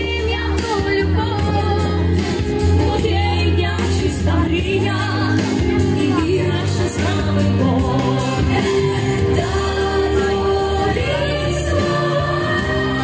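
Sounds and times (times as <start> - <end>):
song with singing voice: 0.0 - 13.0.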